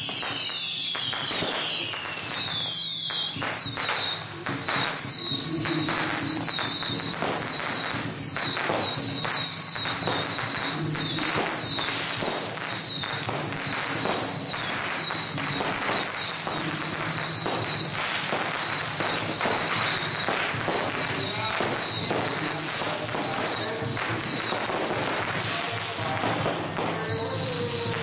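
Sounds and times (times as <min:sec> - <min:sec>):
firecrackers crackling: 0:00.0 - 0:28.0.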